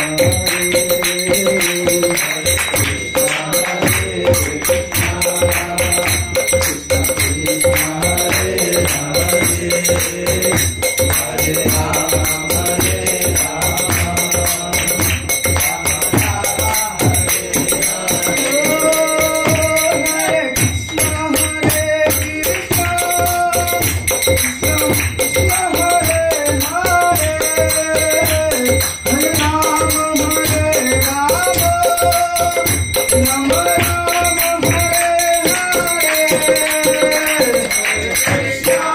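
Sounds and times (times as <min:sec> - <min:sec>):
devotional singing: 0:00.0 - 0:38.9
jingling rattling percussion: 0:00.0 - 0:38.9
steady drum beat: 0:00.0 - 0:38.9.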